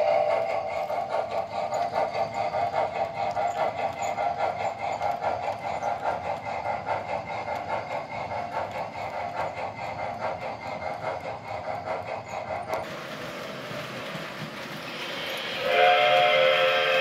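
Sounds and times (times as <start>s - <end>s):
model train wheels clattering: 0.0s - 17.0s.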